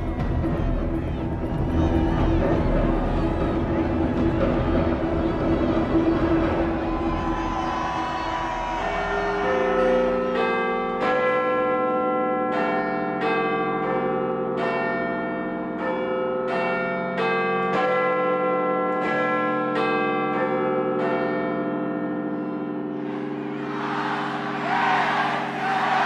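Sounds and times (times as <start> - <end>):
large bells ringing: 0.0 - 26.0.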